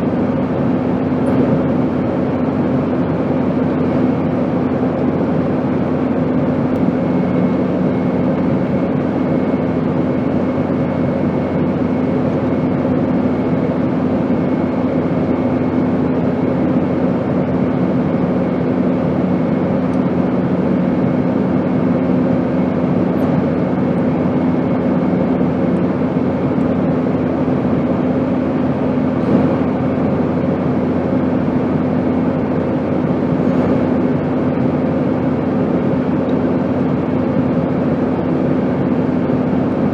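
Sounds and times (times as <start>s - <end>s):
airplane drone: 0.0s - 39.9s.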